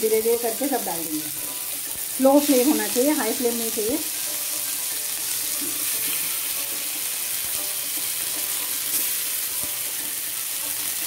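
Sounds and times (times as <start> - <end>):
bread sizzling in hot oil: 0.0 - 11.0.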